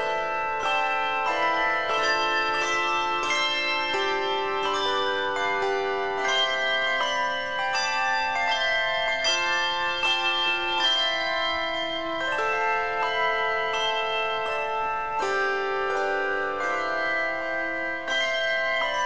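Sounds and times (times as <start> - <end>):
handbell choir ringing chords: 0.0 - 19.0.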